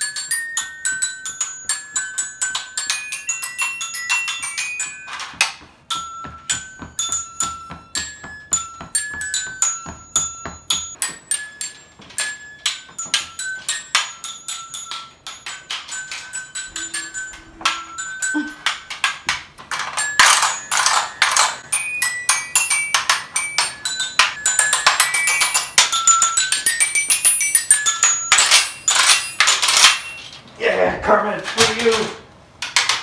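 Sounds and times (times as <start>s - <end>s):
toy xylophone struck fast: 0.0s - 19.2s, 19.8s - 30.2s.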